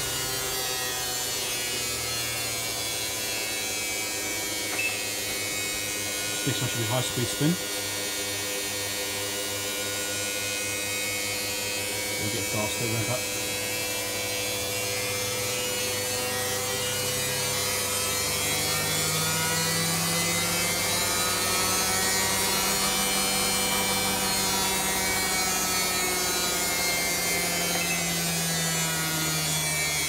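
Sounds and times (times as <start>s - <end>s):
washing machine motor whine: 0.0s - 30.0s.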